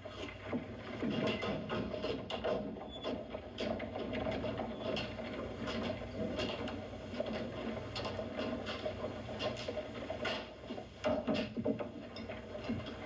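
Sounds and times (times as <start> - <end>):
light clicking and clatter: 0.0 - 13.0.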